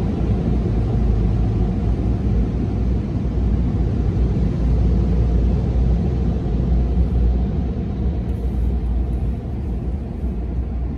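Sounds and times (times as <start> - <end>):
car low rumble: 0.0 - 10.9.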